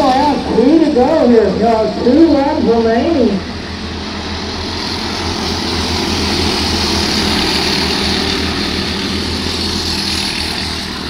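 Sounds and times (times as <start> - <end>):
racing kart engines buzzing: 0.0 - 11.0.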